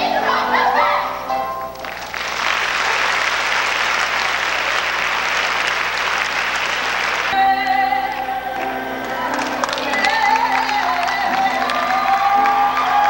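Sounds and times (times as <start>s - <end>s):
audience applauding: 1.8s - 7.4s, 8.0s - 13.0s.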